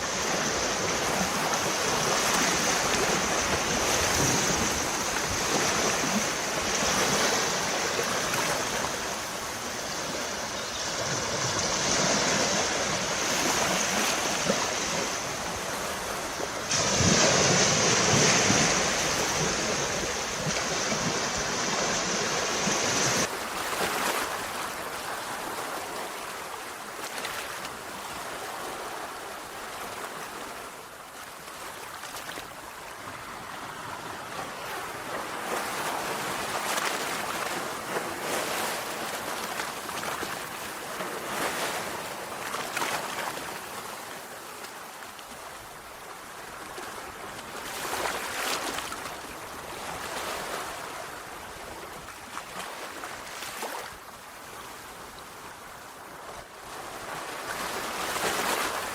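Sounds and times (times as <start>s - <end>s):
sea waves washing onto shore: 0.0s - 58.9s.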